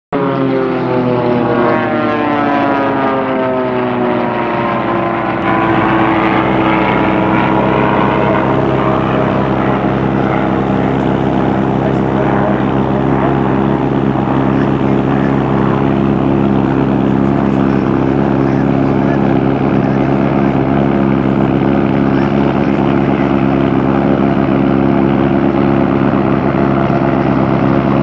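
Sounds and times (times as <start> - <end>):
propeller plane engine passing: 0.2 - 28.0.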